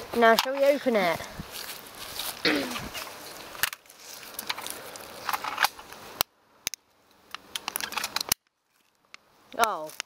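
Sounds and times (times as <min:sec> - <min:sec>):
rustling of dry leaves: 0:00.0 - 0:06.2, 0:06.9 - 0:10.0.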